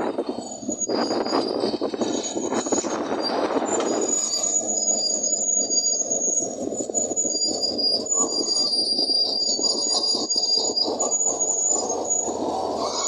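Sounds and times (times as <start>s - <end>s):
metallic squealing of crawler tracks: 0.0s - 13.0s.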